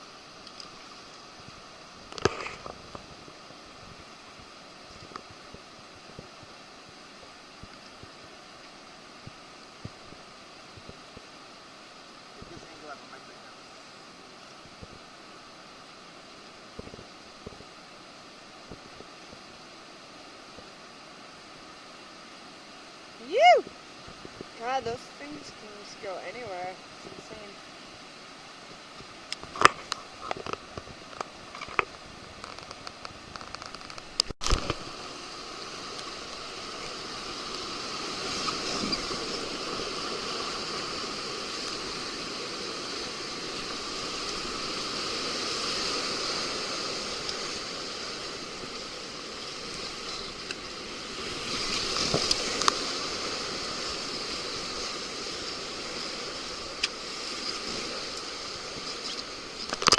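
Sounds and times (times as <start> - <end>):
whitewater rushing: 0.0 - 59.9.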